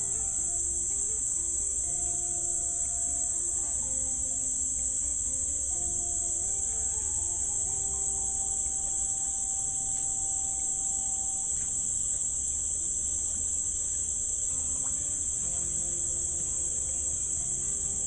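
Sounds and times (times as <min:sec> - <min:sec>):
insects shrilling: 0:00.0 - 0:18.0.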